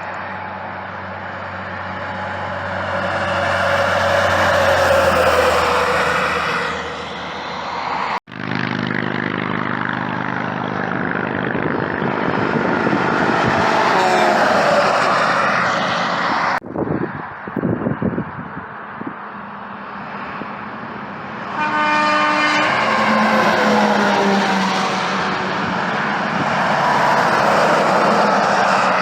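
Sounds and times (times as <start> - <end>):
heavy trucks passing: 0.0 - 29.0.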